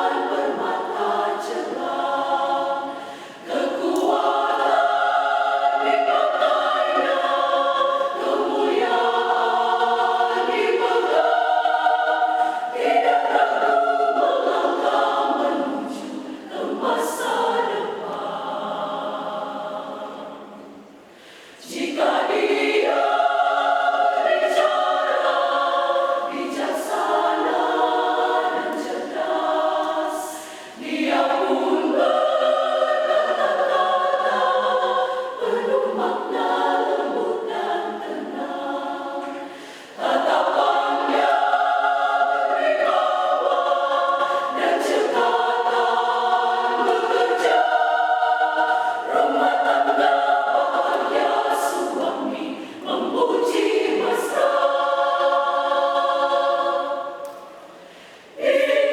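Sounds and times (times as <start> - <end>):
women's choir singing in harmony: 0.0 - 58.9.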